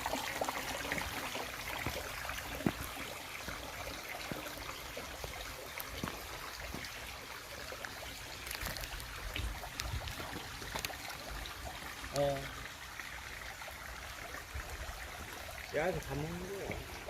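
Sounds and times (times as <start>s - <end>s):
stream water trickling: 0.0s - 17.0s.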